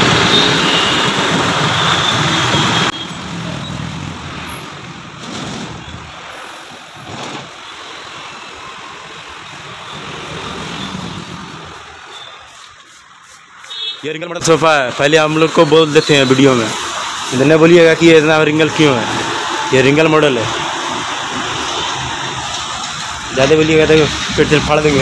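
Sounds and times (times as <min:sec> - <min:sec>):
hum of passing traffic: 0:00.0 - 0:25.0.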